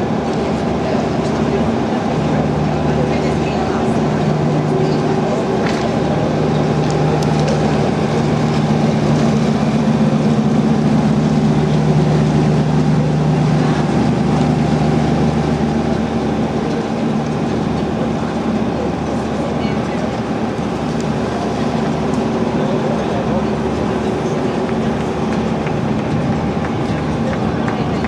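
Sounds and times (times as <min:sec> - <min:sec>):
boat engine humming: 0:00.0 - 0:28.0
rushing water: 0:00.0 - 0:28.0.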